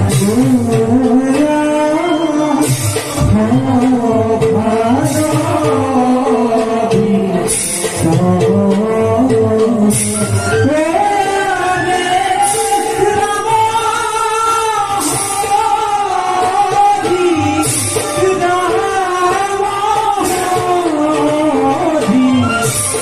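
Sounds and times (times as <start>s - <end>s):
stage music accompaniment: 0.0s - 23.0s.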